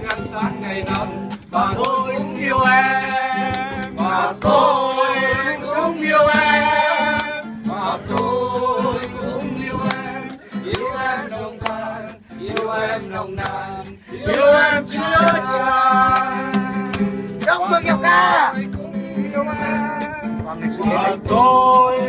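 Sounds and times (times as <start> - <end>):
man singing: 0.0 - 22.0
strummed acoustic guitar: 0.0 - 22.0.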